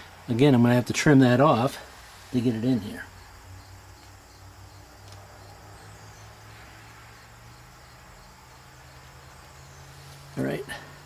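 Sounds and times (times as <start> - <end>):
crickets chirping: 0.0 - 11.0
low steady hum: 0.0 - 11.0.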